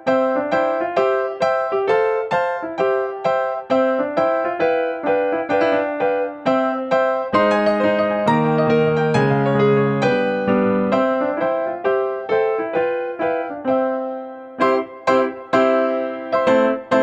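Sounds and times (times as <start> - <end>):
light piano melody: 0.0 - 17.0.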